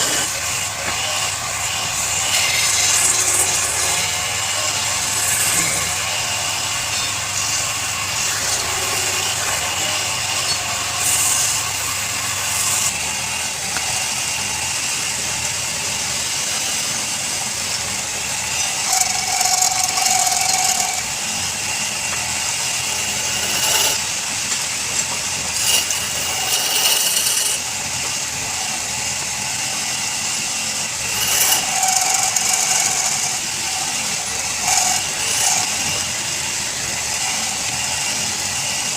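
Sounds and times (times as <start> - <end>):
turning tool cutting wood: 0.0 - 38.9
wood lathe running: 0.0 - 38.9.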